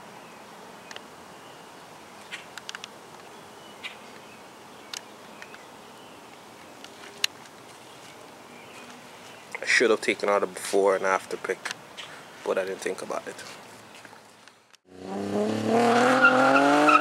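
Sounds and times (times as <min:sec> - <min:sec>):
faint steady hiss: 0:00.0 - 0:14.8.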